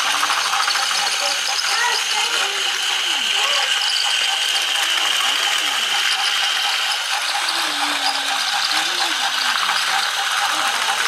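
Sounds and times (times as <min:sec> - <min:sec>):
toy train motor whirring: 0:00.0 - 0:11.0.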